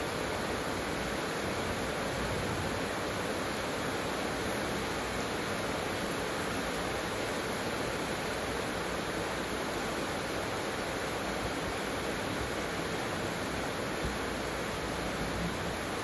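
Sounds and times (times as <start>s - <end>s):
heavy rain on roof tiles and foliage: 0.0s - 16.0s.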